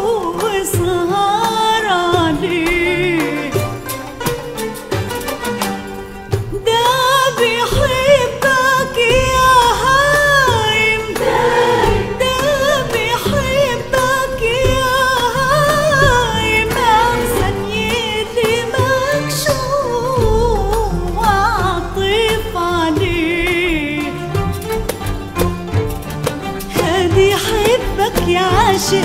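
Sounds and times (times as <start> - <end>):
woman singing: 0.0 - 3.9, 6.5 - 24.7, 26.6 - 29.0
frame drums: 0.0 - 29.0
oud: 0.0 - 29.0
qanun: 0.0 - 29.0
violins: 0.0 - 29.0.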